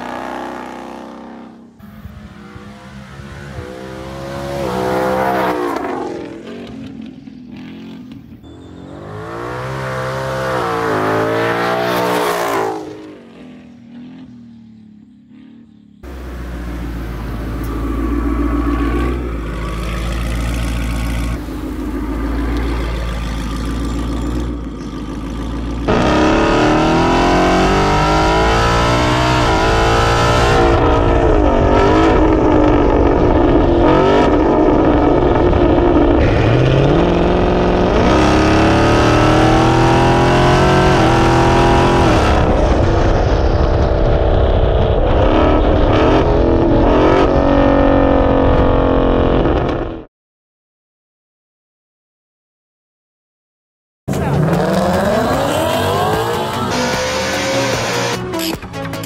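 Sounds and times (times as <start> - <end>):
car engine accelerating hard: 0.0 - 50.1, 54.1 - 58.9.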